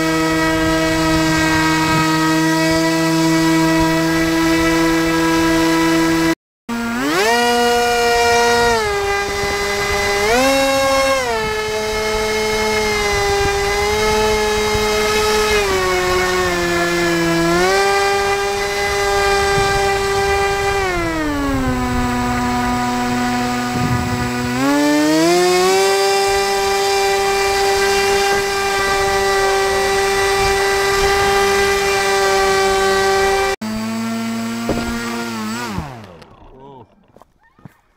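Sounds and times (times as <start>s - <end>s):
model airboat motor whining: 0.0s - 37.2s.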